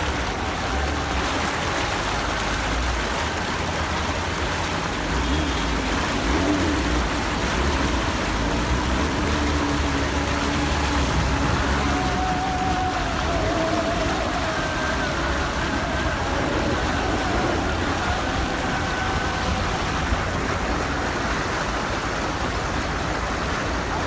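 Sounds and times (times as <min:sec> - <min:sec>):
vehicle engine rumbling: 0:00.0 - 0:24.0
water rushing around vehicle: 0:00.0 - 0:24.0.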